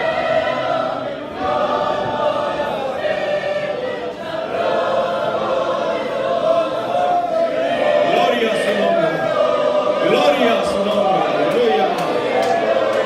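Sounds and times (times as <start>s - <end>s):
church choir singing hymn: 0.0s - 13.0s.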